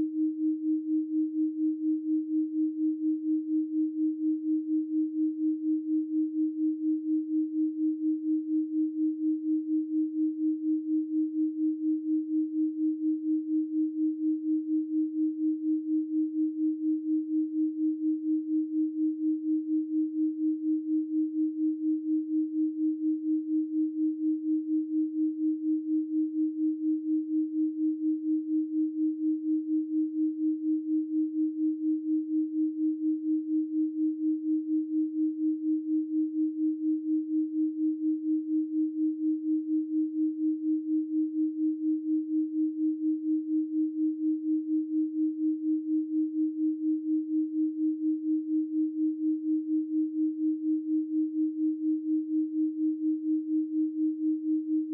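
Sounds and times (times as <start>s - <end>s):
pulsing pure sine tone: 0.0s - 54.9s.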